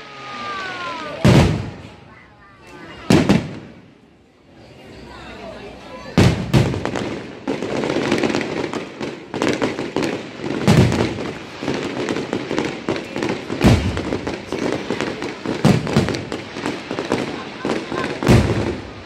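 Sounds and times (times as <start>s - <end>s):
firework crackling: 0.0s - 19.0s
firework shells booming: 0.5s - 2.1s, 3.0s - 4.0s, 6.1s - 19.0s.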